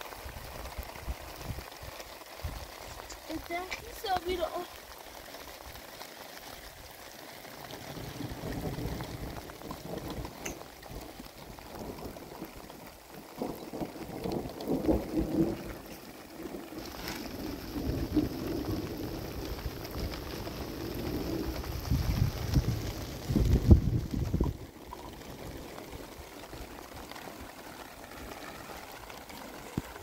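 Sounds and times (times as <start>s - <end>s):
wind rumbling on microphone: 0.0s - 4.8s, 7.5s - 30.0s
rain falling: 0.0s - 30.0s.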